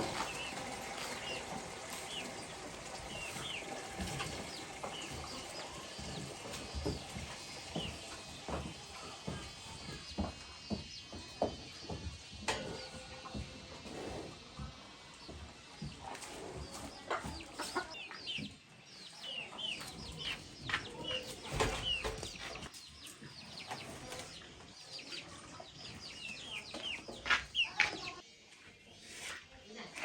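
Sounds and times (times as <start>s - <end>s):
chickens cheeping: 0.0s - 12.0s, 15.9s - 28.2s.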